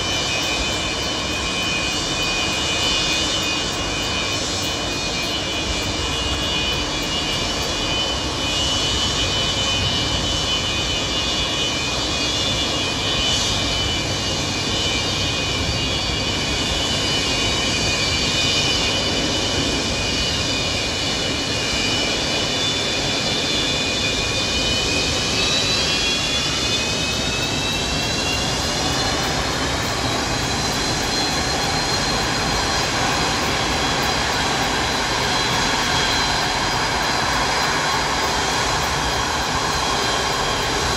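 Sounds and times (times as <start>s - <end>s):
jet engines rushing with whine: 0.0s - 40.9s.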